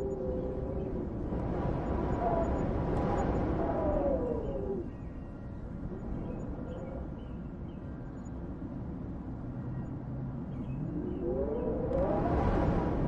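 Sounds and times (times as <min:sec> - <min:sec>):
wind howling: 0:00.0 - 0:08.1, 0:10.3 - 0:13.0.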